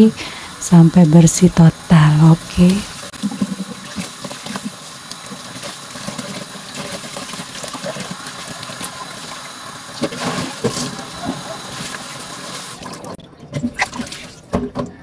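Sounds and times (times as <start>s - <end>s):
tap water running into basin: 0.0s - 13.2s.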